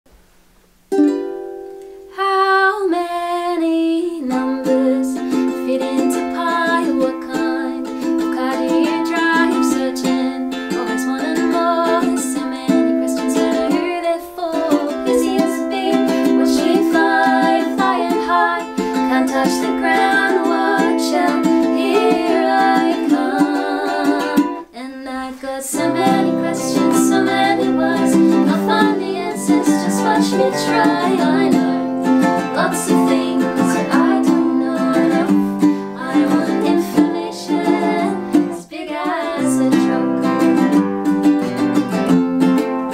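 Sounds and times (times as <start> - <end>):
acoustic guitar: 0.1 - 42.9
ukulele playing melody: 0.4 - 24.8, 25.4 - 42.9.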